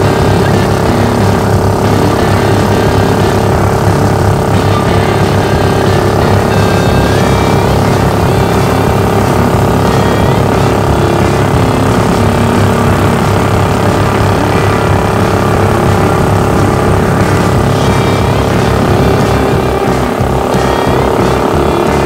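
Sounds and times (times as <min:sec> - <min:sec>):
boat motor running steadily: 0:00.0 - 0:22.0.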